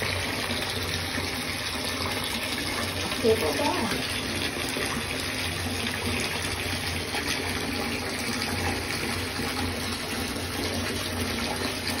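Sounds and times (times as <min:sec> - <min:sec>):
bath tap water pouring: 0:00.0 - 0:12.0.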